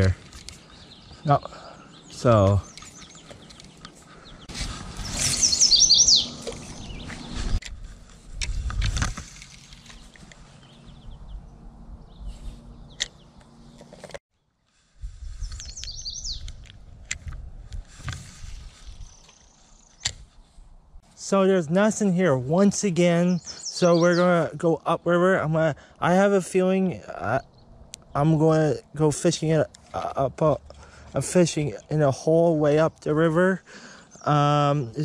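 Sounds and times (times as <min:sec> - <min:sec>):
songbird singing: 0:00.0 - 0:07.7, 0:08.8 - 0:14.6, 0:15.3 - 0:20.5, 0:21.1 - 0:35.0.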